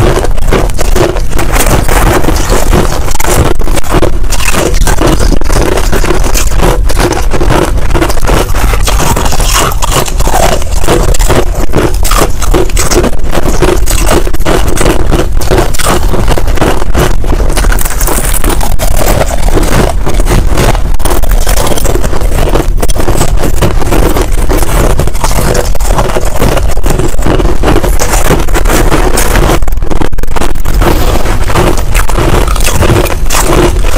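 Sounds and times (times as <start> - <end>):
spoon scraping ice: 0.0 - 29.6, 30.7 - 33.9
ice being chewed: 0.0 - 33.9.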